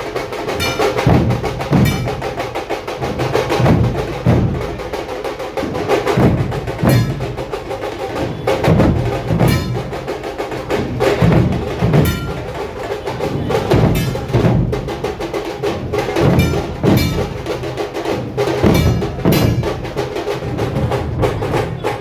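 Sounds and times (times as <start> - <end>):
dhol and tasha drumming: 0.0 - 22.0.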